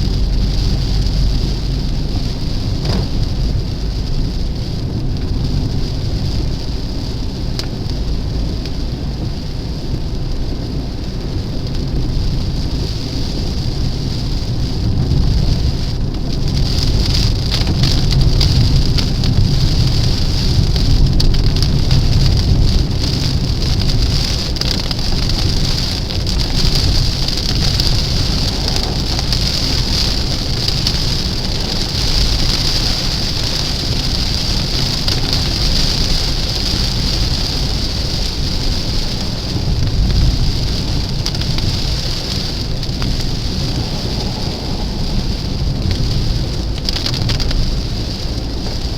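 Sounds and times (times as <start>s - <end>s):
low rumble of car: 0.0s - 48.9s
rain pattering on car: 0.0s - 48.9s.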